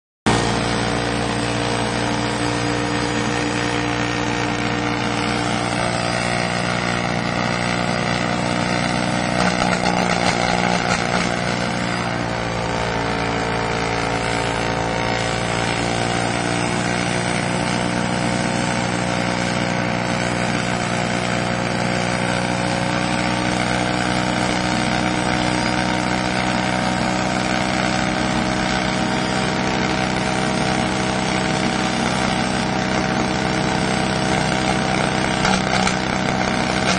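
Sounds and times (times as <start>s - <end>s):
rotary engine idling and revving: 0.3s - 36.9s.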